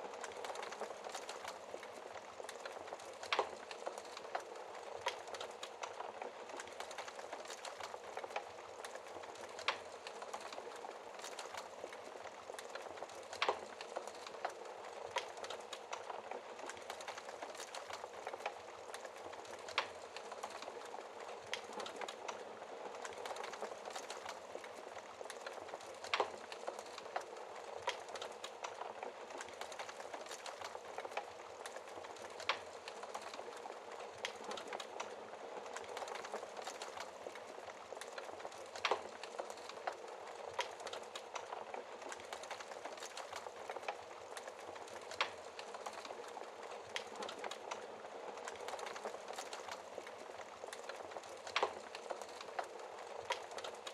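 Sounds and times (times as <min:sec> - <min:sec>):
fire crackling: 0:00.0 - 0:53.9
fire popping: 0:00.0 - 0:53.9.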